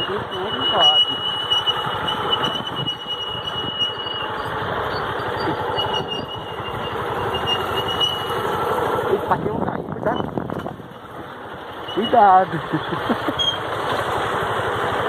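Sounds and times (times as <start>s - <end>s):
high-pitched squeal: 0.0s - 10.8s, 11.7s - 12.5s, 13.2s - 13.7s
vehicle engine driving slowly: 0.0s - 15.0s.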